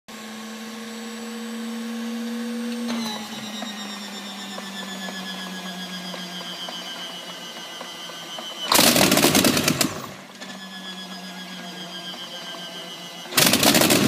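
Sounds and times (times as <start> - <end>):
engine starter whining: 1.6 - 14.0.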